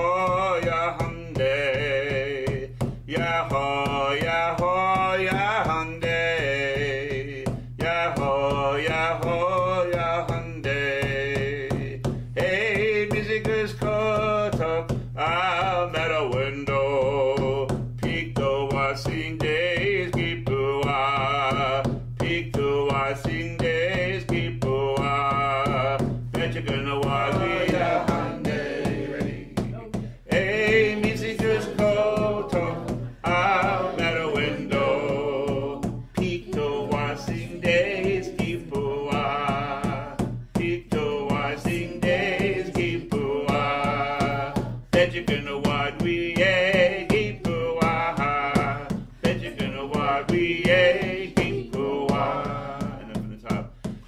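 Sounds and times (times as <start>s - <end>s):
man chanting a prayer song: 0.0s - 53.7s
steady percussive beat: 0.0s - 54.0s.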